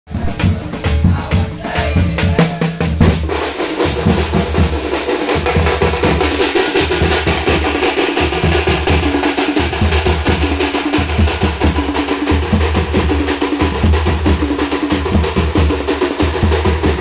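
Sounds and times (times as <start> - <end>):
fast driving drumming: 0.1 - 17.0.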